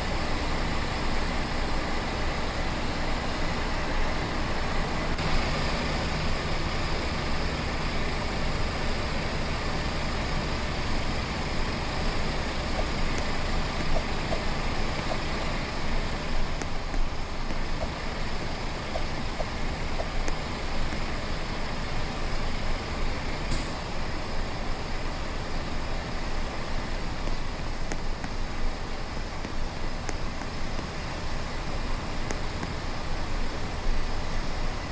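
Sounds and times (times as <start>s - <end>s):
truck engine drone: 0.0s - 34.9s
tyre and road noise: 0.0s - 34.9s.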